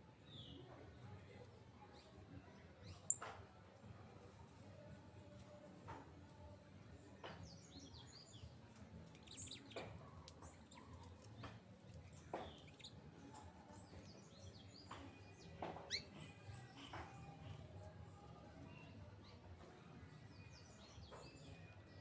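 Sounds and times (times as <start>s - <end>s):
birds chirping faintly: 0.1s - 22.0s.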